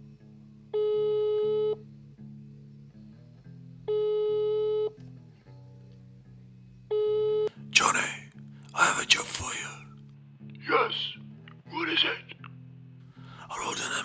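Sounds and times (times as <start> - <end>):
soft guitar music: 0.0 - 14.0.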